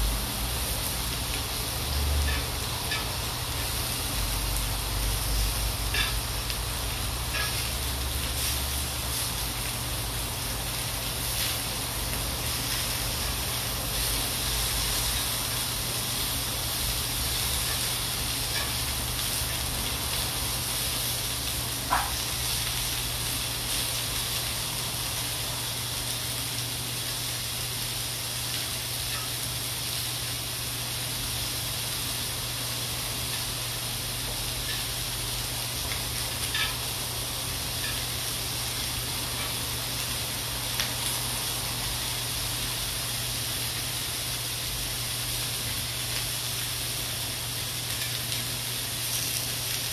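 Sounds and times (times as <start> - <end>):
meat sizzling on a grill pan: 0.0 - 49.9.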